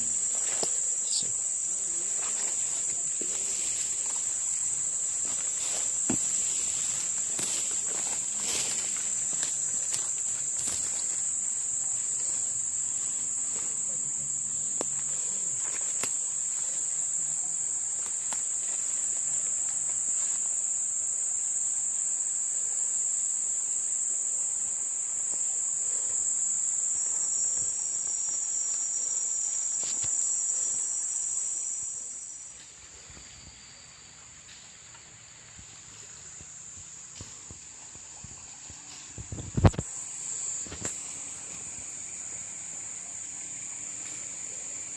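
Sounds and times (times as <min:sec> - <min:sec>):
insect chorus drone: 0:00.0 - 0:44.9.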